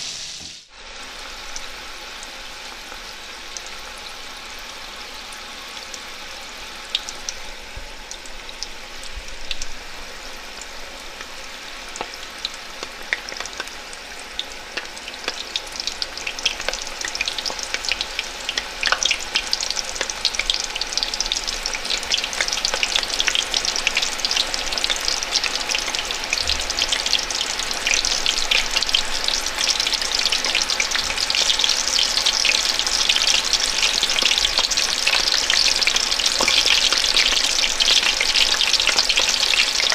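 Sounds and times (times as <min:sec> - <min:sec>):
chicken frying in hot oil: 0:00.0 - 0:39.9.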